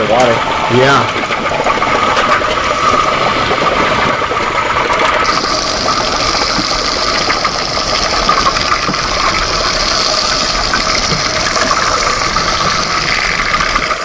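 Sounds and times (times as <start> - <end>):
lava hissing and rumbling underwater: 0.0 - 14.0.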